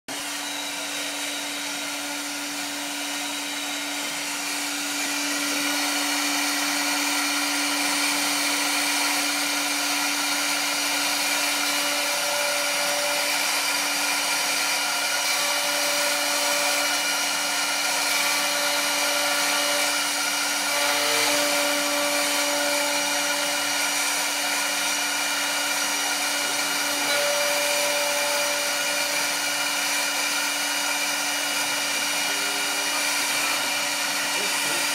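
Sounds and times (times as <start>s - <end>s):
metal lathe humming: 0.1s - 34.9s.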